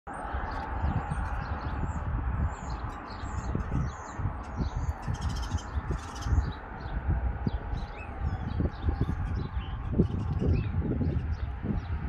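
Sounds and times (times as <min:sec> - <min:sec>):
small birds chirping: 0:00.1 - 0:12.0
wind rumble on microphone: 0:00.1 - 0:12.0.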